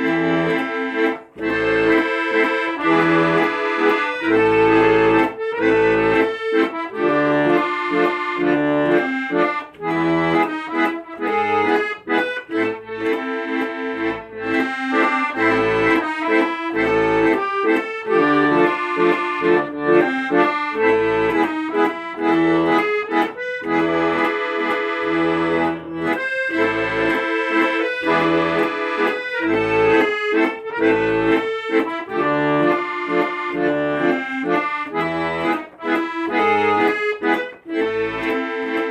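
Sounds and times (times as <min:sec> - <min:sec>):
accordion melody: 0:00.0 - 0:38.9
low bass notes: 0:07.0 - 0:38.9.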